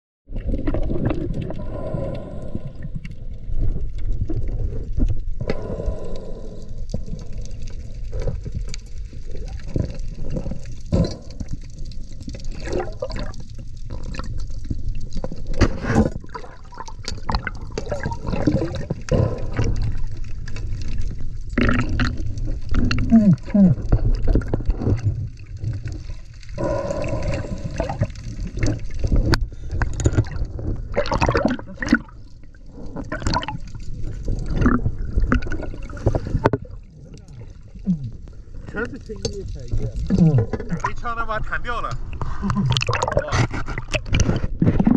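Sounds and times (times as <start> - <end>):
muffled water sloshing underwater: 0.3 - 44.9.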